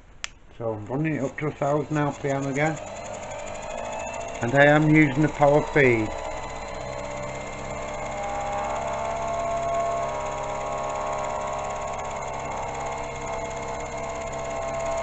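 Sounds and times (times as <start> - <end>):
milling machine hum: 0.8 - 15.0
high held tone: 1.0 - 15.0.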